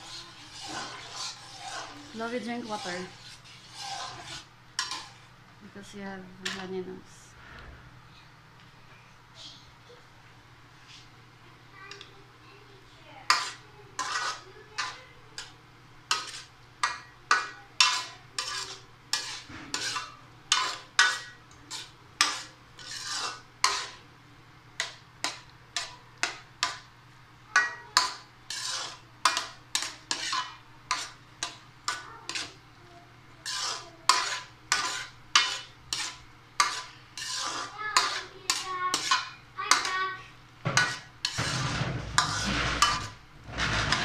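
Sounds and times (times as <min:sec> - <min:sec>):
spoon stirring nuts in a pot: 0:00.0 - 0:05.3, 0:05.9 - 0:06.8, 0:13.2 - 0:24.1, 0:24.8 - 0:32.7, 0:33.4 - 0:44.0.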